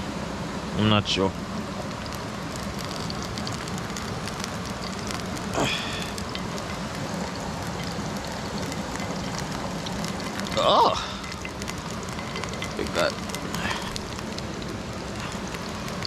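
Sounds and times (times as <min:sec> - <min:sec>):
frying in hot oil sizzling: 0:01.5 - 0:16.0.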